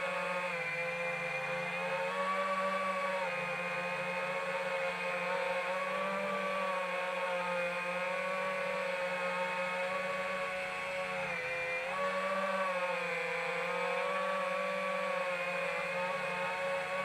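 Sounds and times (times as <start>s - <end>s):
drone propellers whirring: 0.0s - 17.0s.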